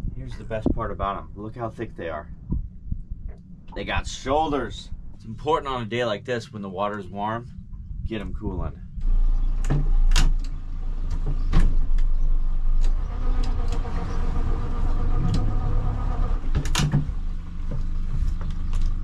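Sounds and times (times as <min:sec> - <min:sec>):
steady whine: 0:00.0 - 0:18.9
low mechanical hum: 0:00.0 - 0:19.0.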